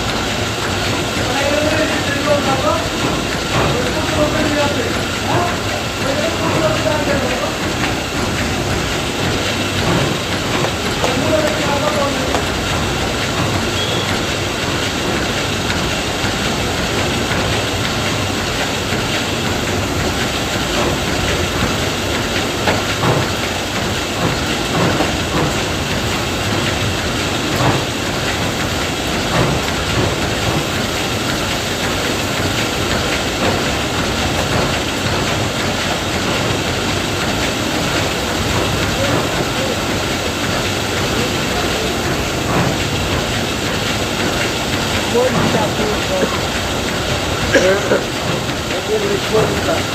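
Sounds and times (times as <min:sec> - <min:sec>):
combine harvester clatter: 0:00.0 - 0:49.9.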